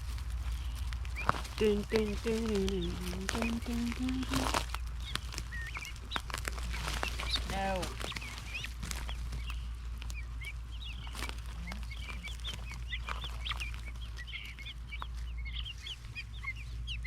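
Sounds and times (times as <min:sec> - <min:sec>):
baby birds peeping: 0:00.0 - 0:17.0.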